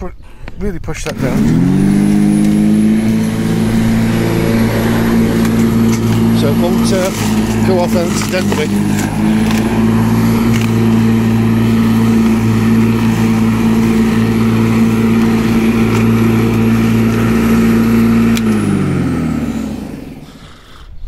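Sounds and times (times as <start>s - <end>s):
electric lawnmower running: 1.0s - 20.6s.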